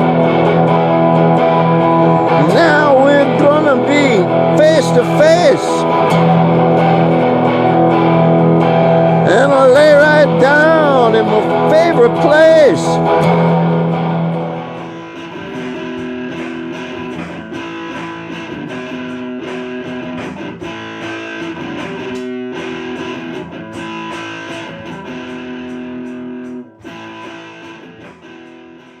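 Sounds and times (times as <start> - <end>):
electric guitar strumming: 0.0 - 29.0.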